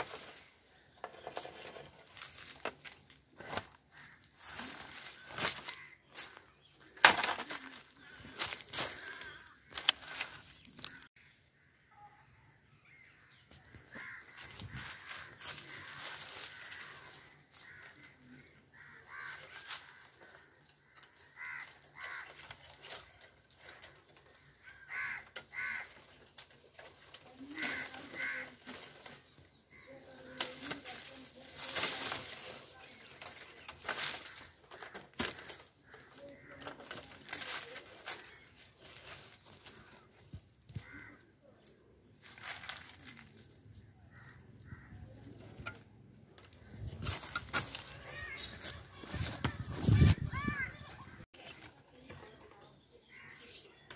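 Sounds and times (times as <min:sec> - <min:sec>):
leaves rustling and twigs cracking: 0:00.0 - 0:11.1, 0:13.8 - 0:53.3
birds calling: 0:00.0 - 0:53.9.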